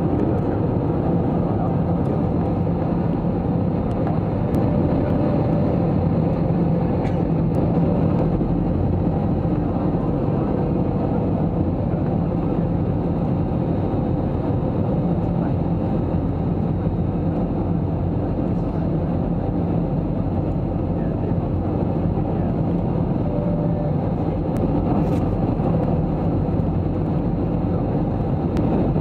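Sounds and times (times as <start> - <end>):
airplane cabin engine drone: 0.0 - 29.0.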